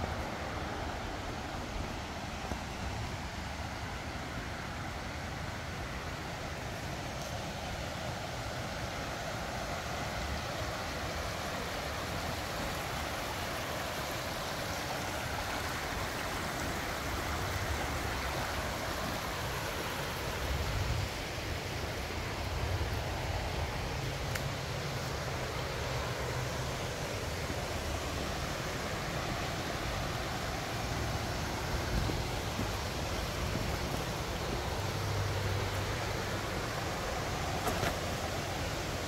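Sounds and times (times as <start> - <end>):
stream rushing over stones: 0.0 - 39.0.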